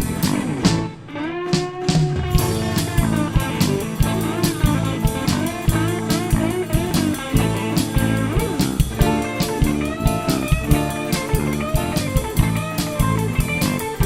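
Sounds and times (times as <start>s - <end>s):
drum kit beat: 0.0s - 14.0s
electric guitar bent notes: 0.0s - 14.0s
live blues band playing: 0.0s - 14.0s.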